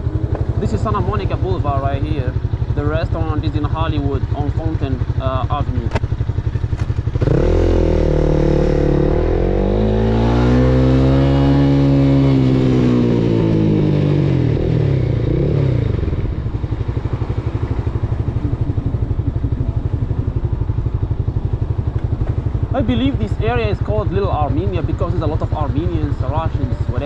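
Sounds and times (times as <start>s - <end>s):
motorcycle engine idling: 0.0s - 27.0s
motorcycle engine revving: 0.0s - 27.0s.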